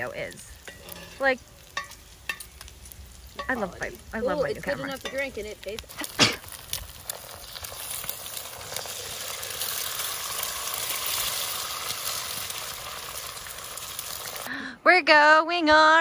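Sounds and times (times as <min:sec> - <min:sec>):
eggs sizzling in skillet: 0:00.0 - 0:14.7.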